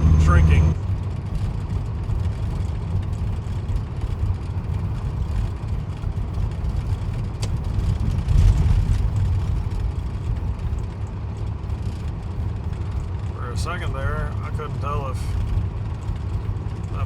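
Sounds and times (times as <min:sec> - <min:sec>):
truck diesel engine rumble: 0:00.0 - 0:17.0.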